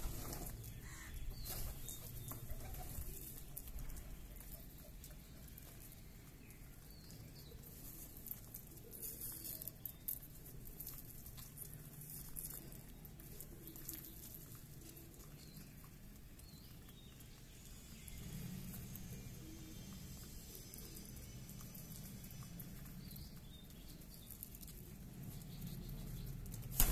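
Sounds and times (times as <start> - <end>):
low background hum: 0.0 - 26.9
pigeons pecking on concrete: 0.0 - 26.9.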